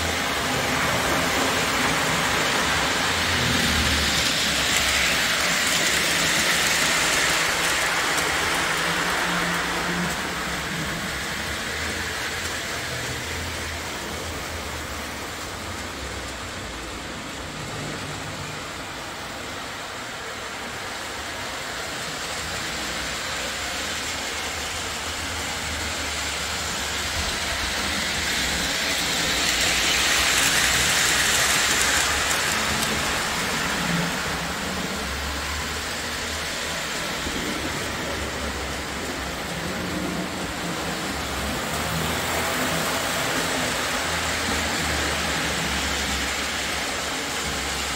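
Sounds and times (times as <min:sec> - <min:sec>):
model train rumbling: 0:00.0 - 0:47.9.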